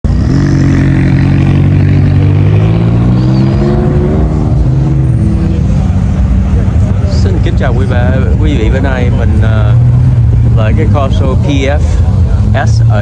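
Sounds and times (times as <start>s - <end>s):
sports car engine revving: 0.1s - 13.0s.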